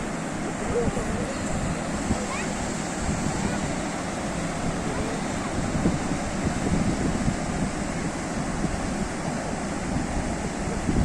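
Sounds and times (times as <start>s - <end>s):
sea waves washing in: 0.0s - 11.0s
wind buffeting microphone: 0.0s - 11.0s.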